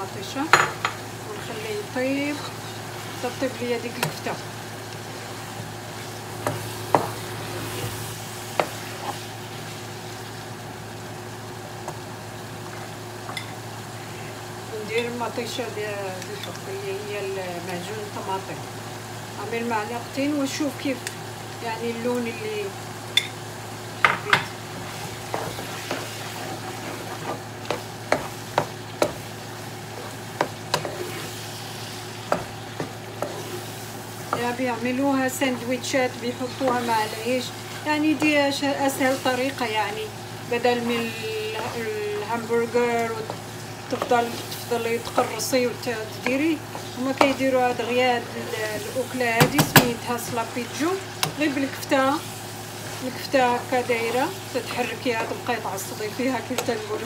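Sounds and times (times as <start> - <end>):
meat sizzling in frying pan: 0.0 - 57.0.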